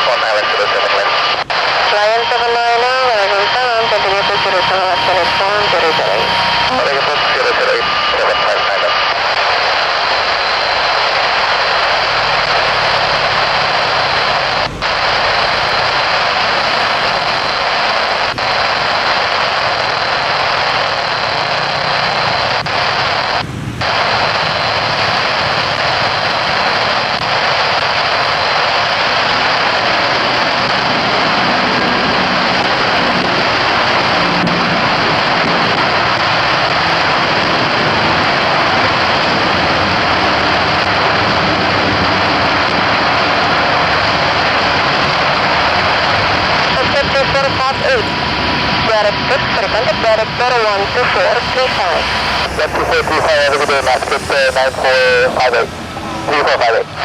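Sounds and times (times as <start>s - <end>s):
faint high whine: 0.0s - 57.0s
jet engines roaring: 0.0s - 57.0s.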